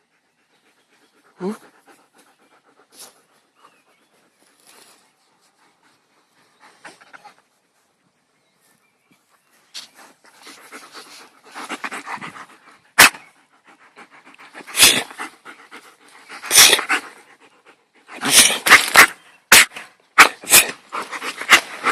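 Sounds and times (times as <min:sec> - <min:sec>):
dog panting: 0:00.0 - 0:07.9, 0:10.0 - 0:19.0, 0:20.6 - 0:21.9.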